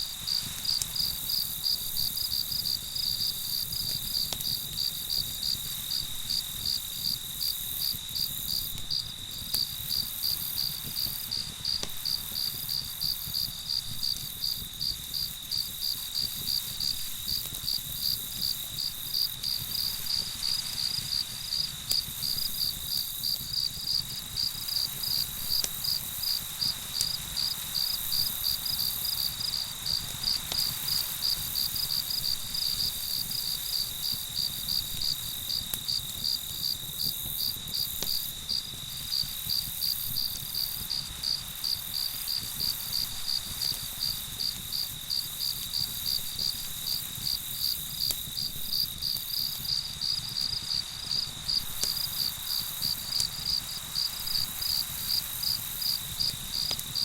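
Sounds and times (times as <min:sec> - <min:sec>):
campfire crackling: 0:00.0 - 0:57.0
crickets chirping: 0:00.0 - 0:57.0.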